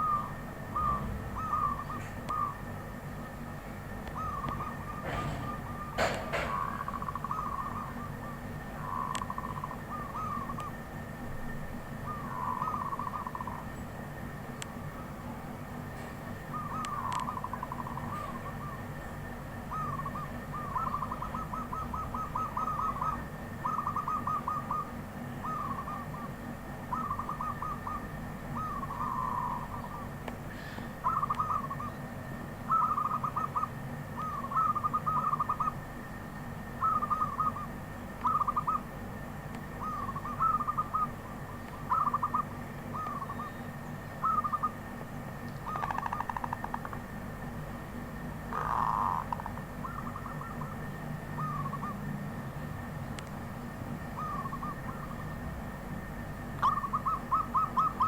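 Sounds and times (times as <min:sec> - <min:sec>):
dove cooing: 0:00.0 - 0:13.9, 0:16.0 - 0:47.2, 0:48.4 - 0:52.9, 0:53.8 - 0:58.0
steady low hum: 0:00.0 - 0:58.0.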